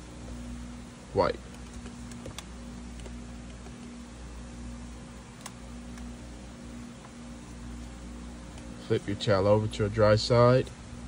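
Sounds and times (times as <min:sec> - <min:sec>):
faint constant tone: 0:00.0 - 0:11.0.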